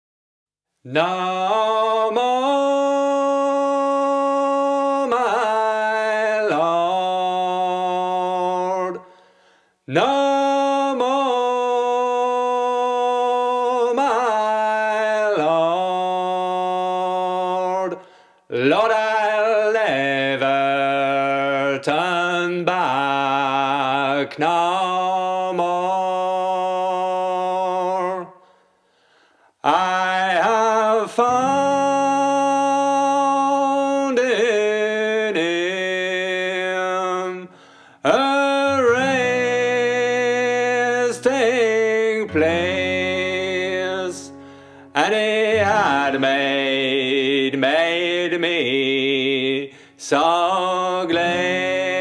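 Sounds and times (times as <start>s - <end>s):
man singing unaccompanied: 0.8s - 9.2s, 9.8s - 28.5s, 29.6s - 52.0s.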